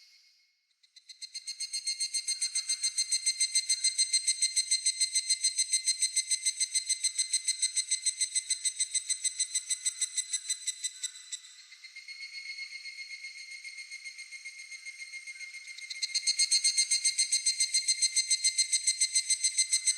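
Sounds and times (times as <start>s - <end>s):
cicada pulsing trill: 1.0s - 19.9s.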